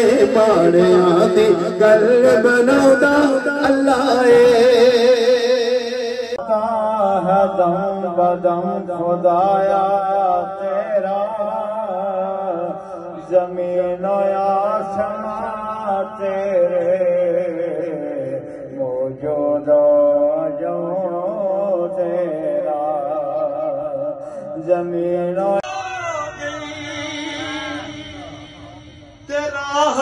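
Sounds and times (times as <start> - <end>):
man chanting: 0.0 - 30.0.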